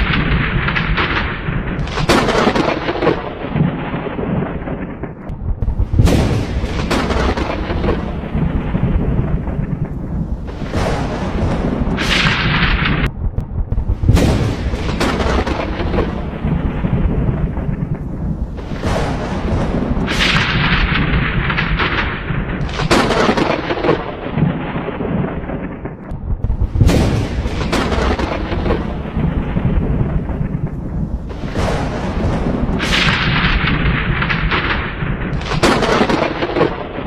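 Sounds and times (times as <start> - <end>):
thunder cracks and rumble: 0.0 - 37.0.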